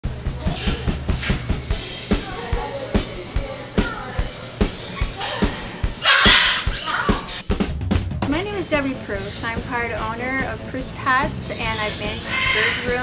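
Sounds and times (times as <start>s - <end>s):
music with drum-kit beat: 0.0s - 13.0s.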